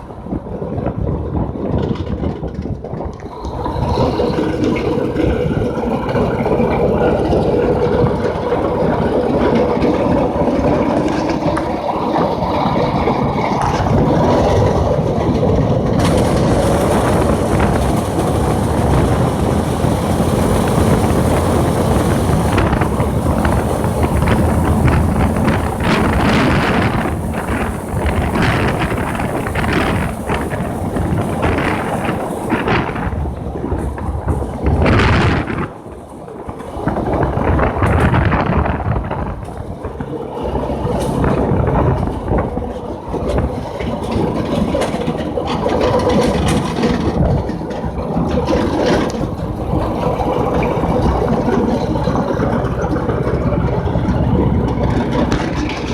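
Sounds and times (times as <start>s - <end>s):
go-kart engine running: 0.0s - 55.9s
wind buffeting microphone: 0.0s - 55.9s.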